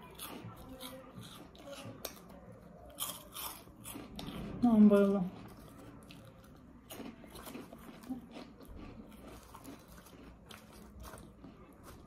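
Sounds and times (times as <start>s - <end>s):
person crunching corn chips: 0.0s - 4.5s, 5.4s - 12.0s.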